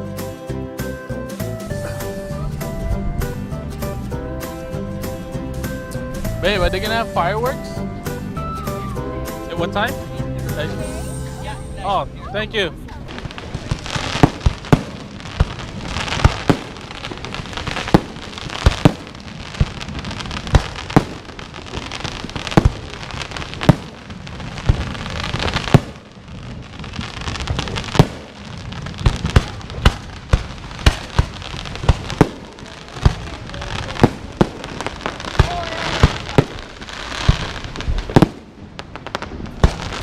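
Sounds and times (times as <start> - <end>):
fireworks bangs: 1.6 - 40.0.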